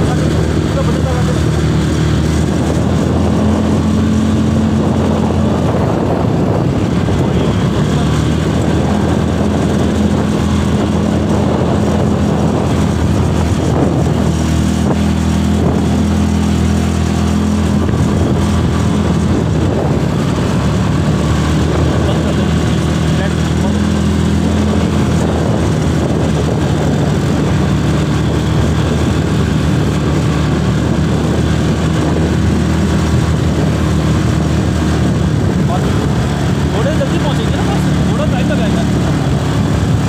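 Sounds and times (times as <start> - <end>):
atv engine running: 0.0 - 40.0.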